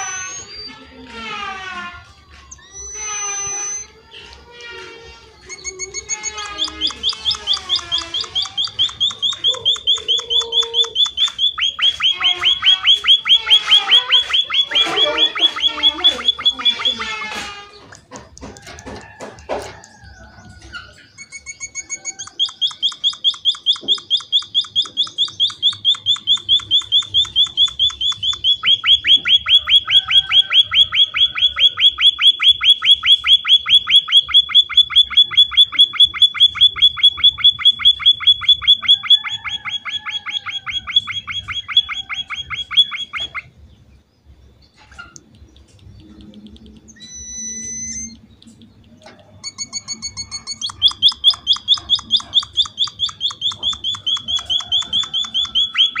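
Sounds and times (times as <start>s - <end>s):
finch rapid high chirps: 5.4s - 18.1s, 20.1s - 43.5s, 44.7s - 56.0s.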